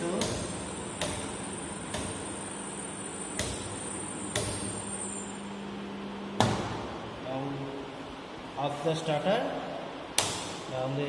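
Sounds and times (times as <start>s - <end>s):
steady motor hum: 0.0s - 11.0s.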